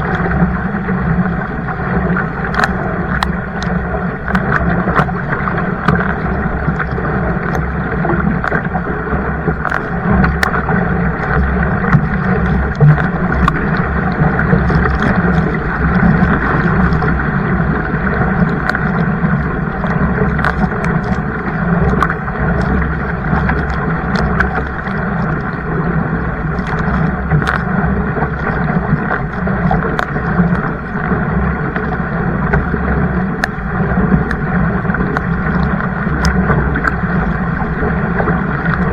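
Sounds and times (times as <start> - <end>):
water rushing and splashing: 0.0 - 38.9
wind rumbling on microphone: 0.0 - 38.9.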